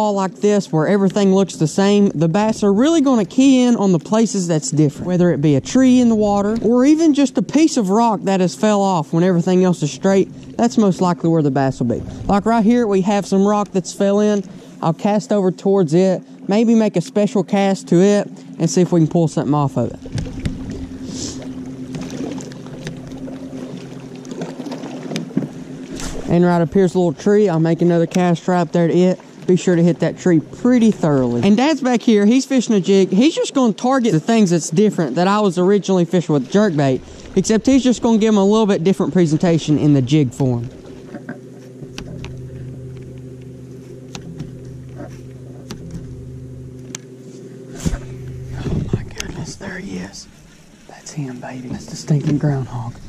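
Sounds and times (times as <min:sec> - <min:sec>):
boat engine hum: 0:00.0 - 0:53.0.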